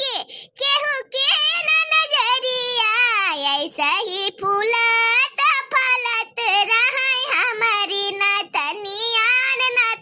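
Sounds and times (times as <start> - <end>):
high-pitched cartoon voice singing: 0.0 - 10.0.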